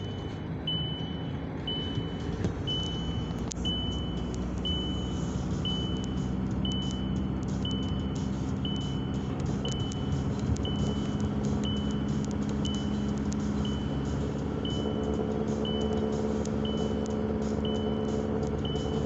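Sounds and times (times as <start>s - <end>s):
car engine and road noise: 0.0s - 19.0s
dashboard warning chime beeping: 0.0s - 19.0s.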